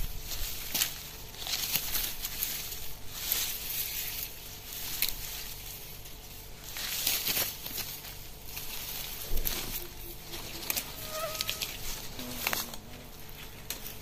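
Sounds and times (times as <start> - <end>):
dry leaves and grass rustling: 0.0 - 14.0.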